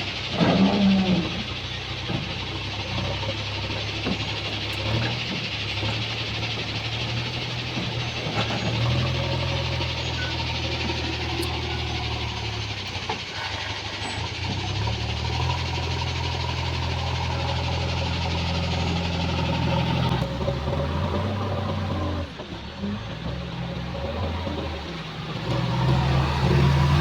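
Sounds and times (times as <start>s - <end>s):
backhoe loader diesel engine running: 0.0s - 27.0s.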